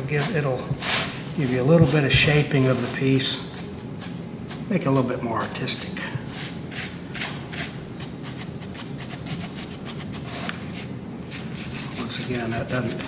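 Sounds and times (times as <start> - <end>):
paintbrush rubbing: 0.0 - 4.7, 6.3 - 13.0.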